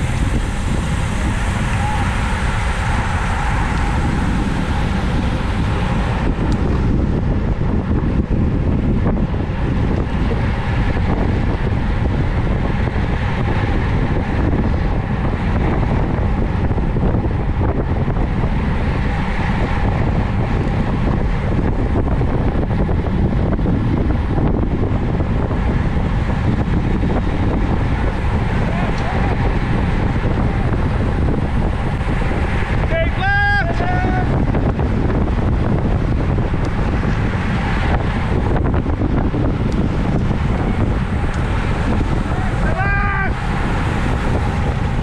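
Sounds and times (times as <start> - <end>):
wind rumbling on microphone: 0.0 - 45.0.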